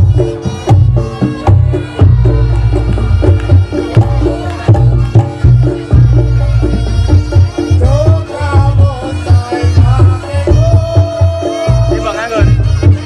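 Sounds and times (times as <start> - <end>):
hand drums beating: 0.0 - 13.0
pitched percussion: 0.0 - 13.0.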